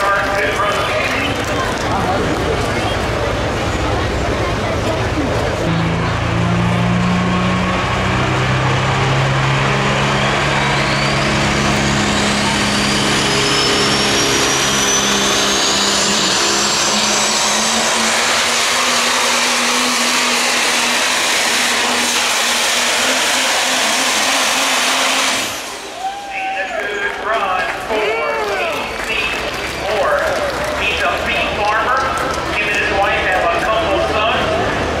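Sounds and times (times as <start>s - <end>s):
diesel truck engine roaring: 0.0s - 35.0s.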